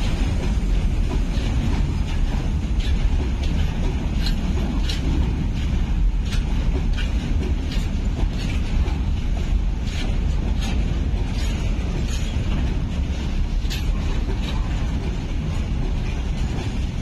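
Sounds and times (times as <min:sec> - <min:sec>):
train wheels rumbling on rails: 0:00.0 - 0:17.0
wheels clicking on rails: 0:00.0 - 0:17.0.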